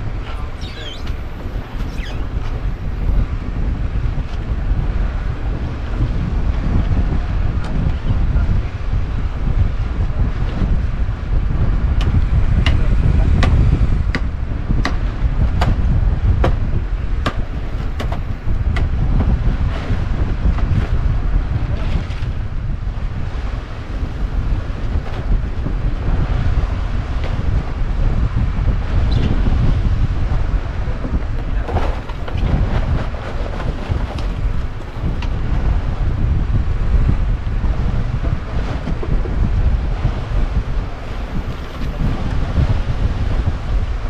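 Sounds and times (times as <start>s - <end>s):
steady low rumble: 0.0s - 44.0s
wind buffeting microphone: 0.0s - 44.0s.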